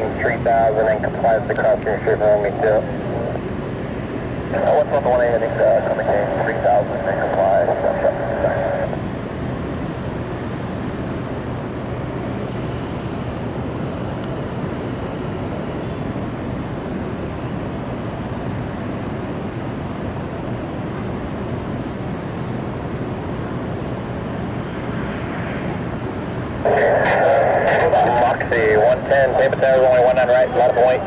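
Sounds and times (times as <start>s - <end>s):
jet aircraft engine noise: 0.0s - 31.0s.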